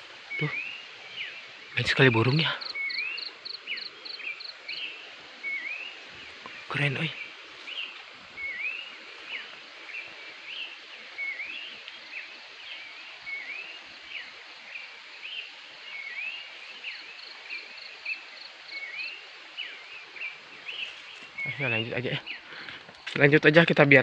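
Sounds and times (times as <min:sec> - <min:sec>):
birds whistling: 0:00.0 - 0:14.3, 0:15.3 - 0:22.8
background hiss: 0:00.0 - 0:24.0.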